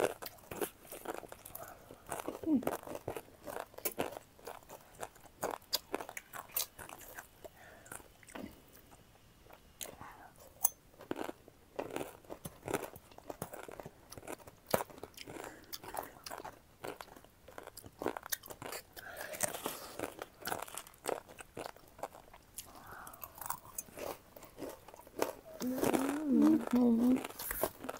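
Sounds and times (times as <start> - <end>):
chewing crunchy food: 0.0 - 27.9.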